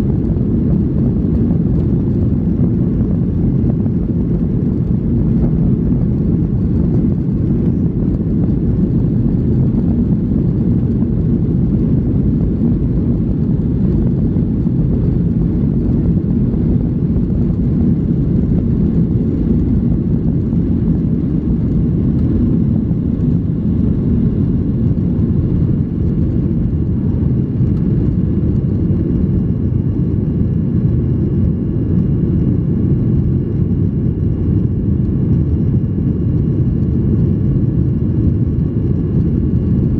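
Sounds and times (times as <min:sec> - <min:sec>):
airliner cabin noise: 0:00.0 - 0:39.9
faint high steady whines: 0:00.0 - 0:39.9.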